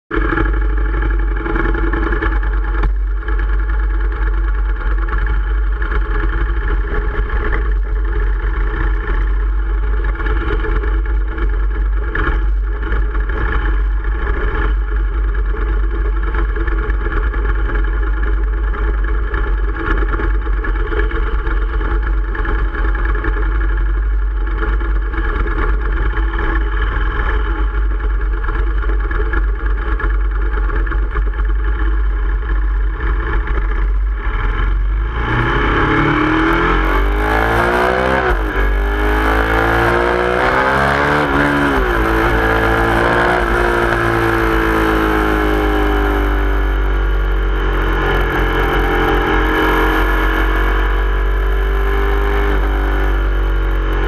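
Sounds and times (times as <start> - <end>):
motorcycle engine idling: 0.1 - 40.6, 41.2 - 54.0.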